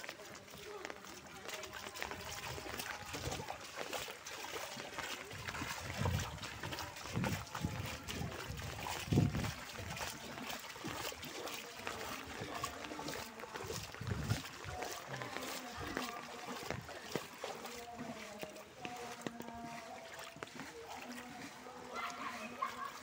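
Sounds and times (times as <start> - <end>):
floodwater running and trickling: 0.0 - 23.0.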